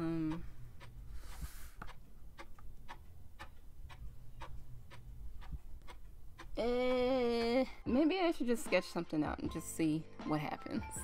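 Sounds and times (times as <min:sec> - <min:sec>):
clock ticking: 0:00.0 - 0:09.9.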